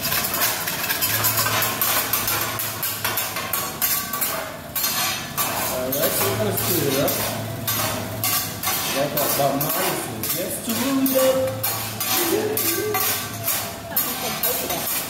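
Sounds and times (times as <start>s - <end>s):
metal spatulas scraping griddle: 0.0s - 15.0s.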